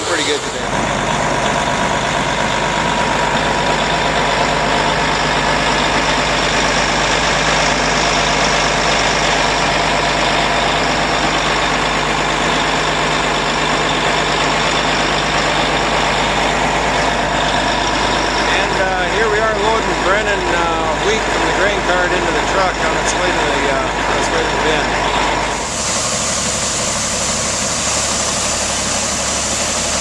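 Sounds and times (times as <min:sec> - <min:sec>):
grain auger unloading: 0:00.0 - 0:30.0
tractor engine running: 0:00.0 - 0:30.0.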